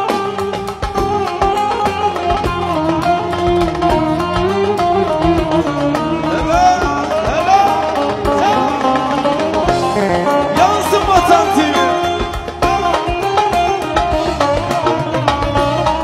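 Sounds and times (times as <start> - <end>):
folk music with lute and violin: 0.0 - 16.0
percussion beat: 0.0 - 16.0.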